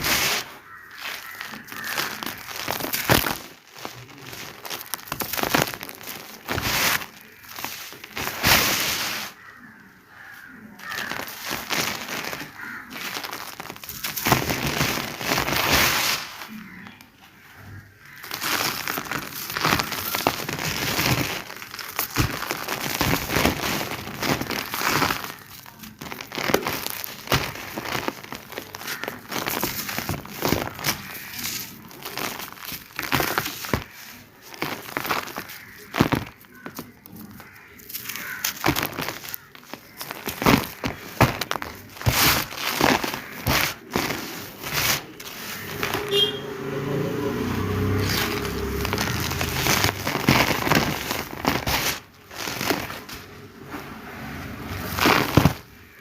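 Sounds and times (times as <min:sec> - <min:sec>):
dry cement crunching by hand: 0:00.0 - 0:56.0.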